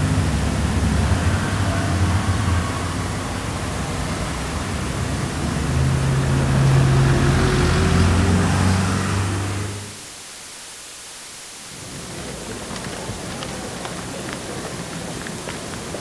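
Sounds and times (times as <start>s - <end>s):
vehicle engines running: 0.0s - 10.0s, 11.7s - 16.0s
road noise: 0.0s - 10.1s, 11.7s - 16.0s.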